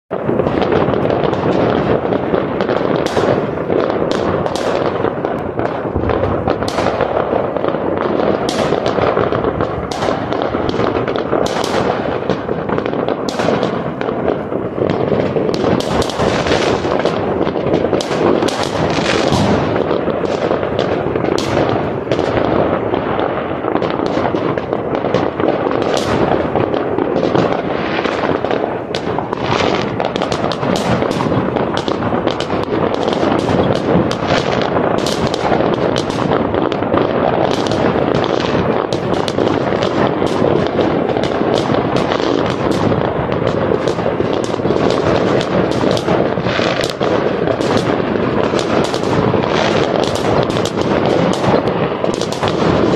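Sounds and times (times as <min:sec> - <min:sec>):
fireworks barrage: 0:00.1 - 0:52.9.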